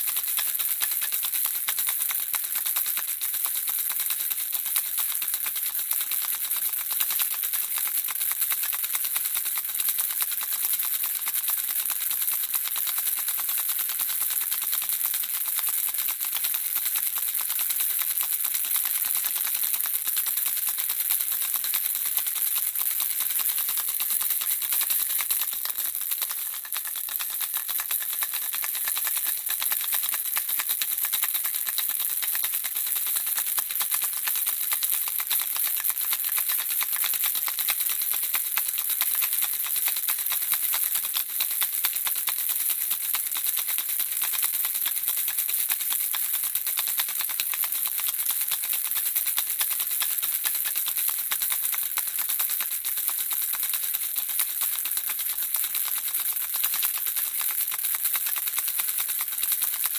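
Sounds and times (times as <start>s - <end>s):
baby rattle shaken: 0.0s - 59.9s.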